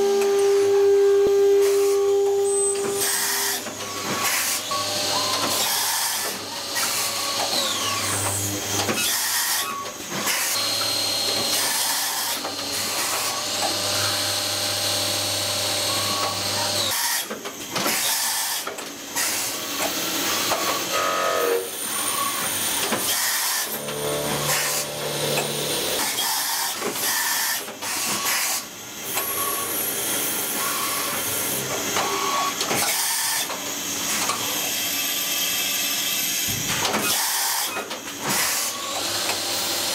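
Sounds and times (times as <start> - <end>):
machine spindle whine: 0.0 - 17.0, 19.6 - 36.0
tool cutting metal: 1.6 - 34.9, 36.7 - 39.9.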